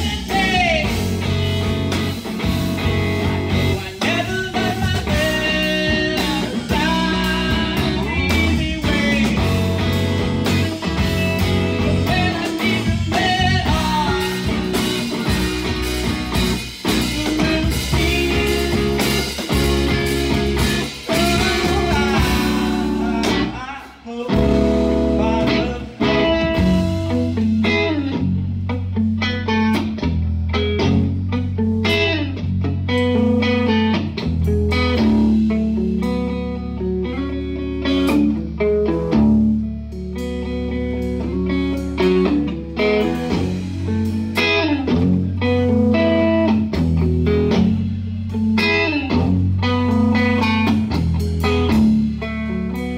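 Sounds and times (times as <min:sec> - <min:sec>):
electric guitar lead lines: 0:00.0 - 0:52.9
live rock band playing: 0:00.0 - 0:52.9
low bass notes: 0:00.0 - 0:52.9.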